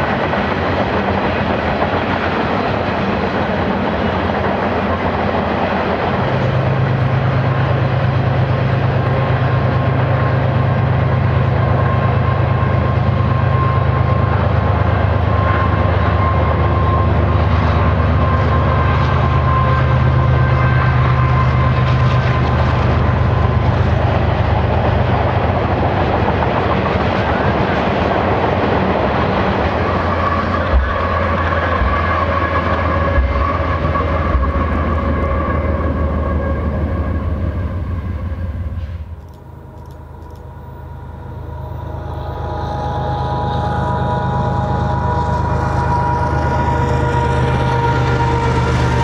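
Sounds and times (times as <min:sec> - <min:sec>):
train cars clunking: 0:00.0 - 0:41.0
diesel locomotive drone: 0:00.0 - 0:49.0
distant train approaching: 0:00.0 - 0:49.0
train wheels rumbling on rails: 0:00.0 - 0:49.0.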